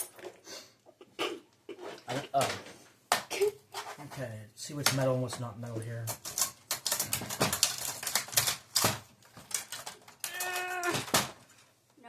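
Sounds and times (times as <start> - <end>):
plastic parts clicking and clattering: 1.9 - 11.8.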